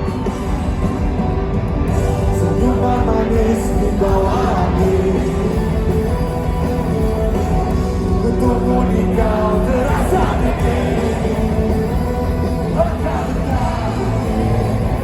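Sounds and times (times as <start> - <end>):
pop-rock band playing: 0.0 - 15.0
lead vocal singing: 1.9 - 15.0.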